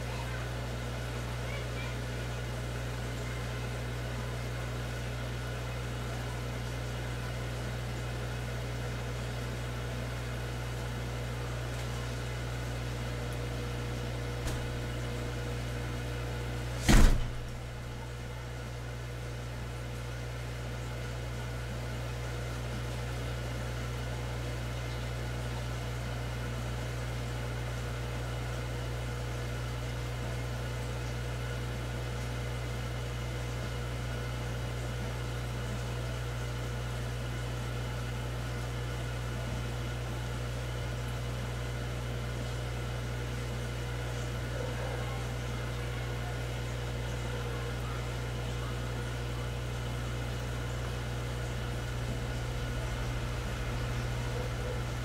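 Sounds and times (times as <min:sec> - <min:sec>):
aquarium pumps humming: 0:00.0 - 0:55.0.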